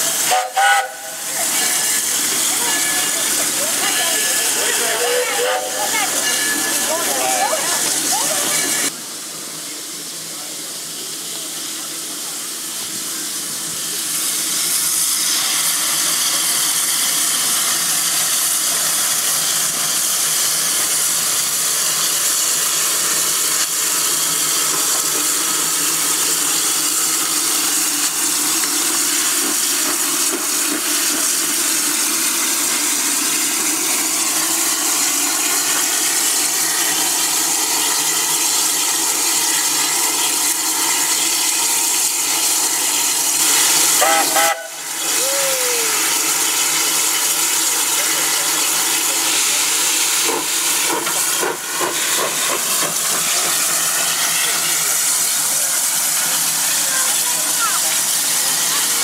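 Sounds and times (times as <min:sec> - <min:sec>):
steam locomotive venting steam: 0:00.0 - 0:59.0.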